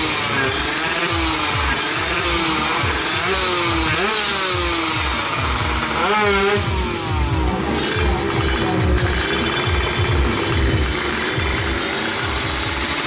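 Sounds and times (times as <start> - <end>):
two-stroke motorbike engines revving: 0.0 - 13.0.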